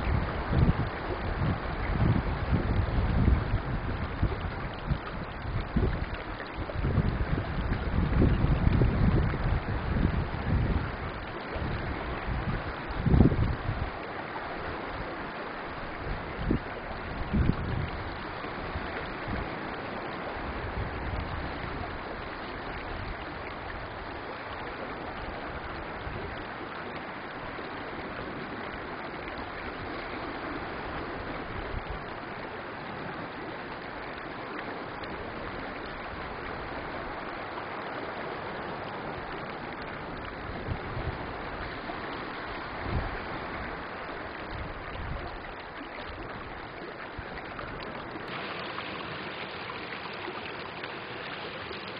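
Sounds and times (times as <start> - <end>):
stream rippling over pebbles: 0.0 - 51.9
wind rumble on microphone: 0.0 - 51.9.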